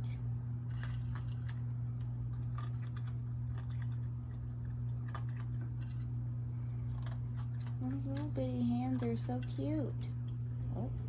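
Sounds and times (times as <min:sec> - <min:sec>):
animal chewing dry kibble: 0:00.0 - 0:11.0
crickets chirping: 0:00.0 - 0:11.0.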